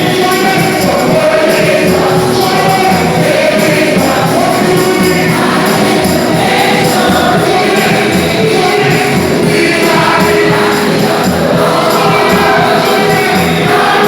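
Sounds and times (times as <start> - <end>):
choir singing over a beat: 0.0 - 14.0.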